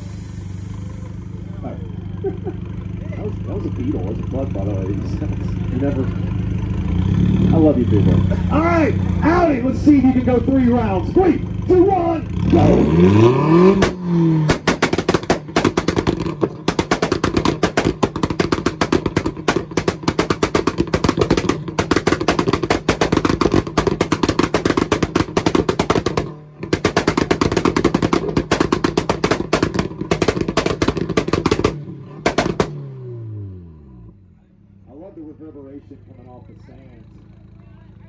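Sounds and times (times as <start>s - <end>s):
exhaust popping and cracking: 0.0s - 33.0s
car engine on launch limiter: 0.0s - 38.0s.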